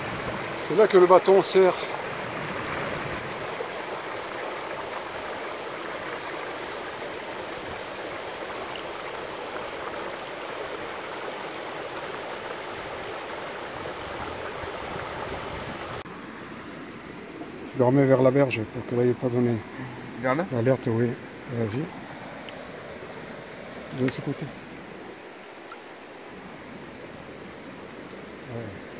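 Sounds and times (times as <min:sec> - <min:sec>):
water rushing over rocks: 0:00.0 - 0:28.9.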